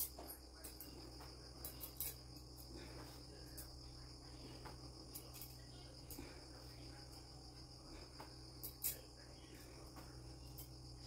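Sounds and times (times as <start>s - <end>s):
faint crickets trilling: 0.0s - 11.0s
low steady hum: 0.0s - 11.0s.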